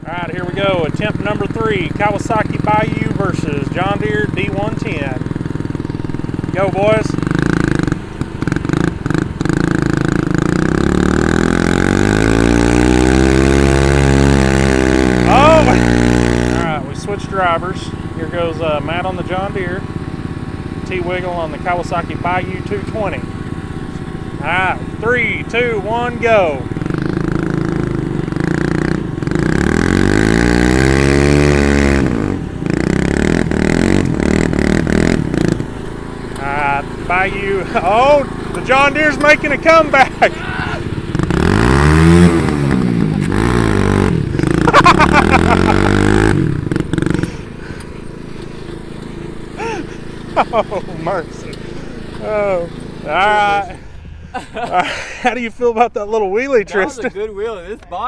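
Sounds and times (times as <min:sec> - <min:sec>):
engine revving up: 0:00.0 - 0:55.0
small engines running under load: 0:00.0 - 0:57.8.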